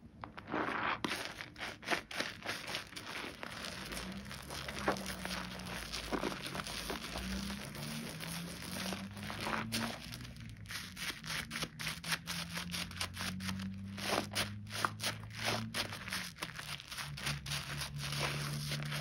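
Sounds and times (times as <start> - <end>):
foam crackling and squishing: 0.3 - 19.0.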